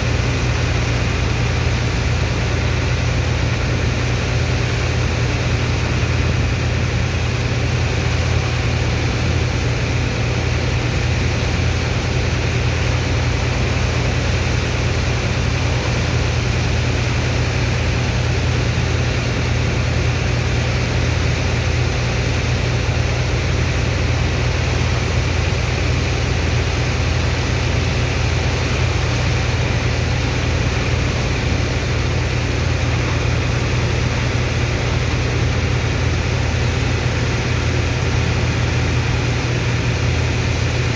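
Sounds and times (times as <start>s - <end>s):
water pump engine hum: 0.0s - 40.9s.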